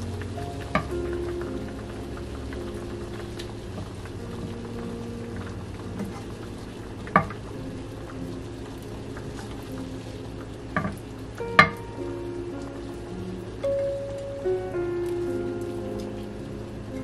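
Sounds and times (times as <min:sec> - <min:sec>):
milk simmering in a frying pan: 0:00.0 - 0:17.0.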